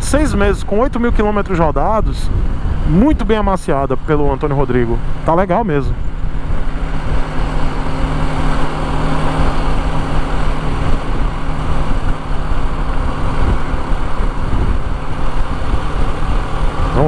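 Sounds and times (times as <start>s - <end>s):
motorcycle engine running: 0.0s - 17.0s
road noise: 0.0s - 17.0s
wind noise: 0.0s - 17.0s.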